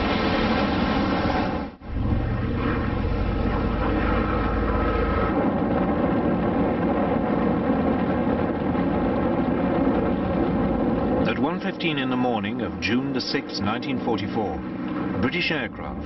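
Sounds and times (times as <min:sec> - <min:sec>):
heavy deep rumble: 0:00.0 - 0:16.0
propeller aircraft engines droning: 0:00.0 - 0:16.0.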